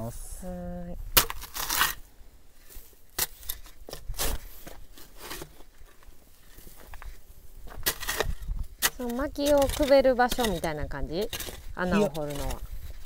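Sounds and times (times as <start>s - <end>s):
shovel scraping into dirt: 1.2s - 13.0s.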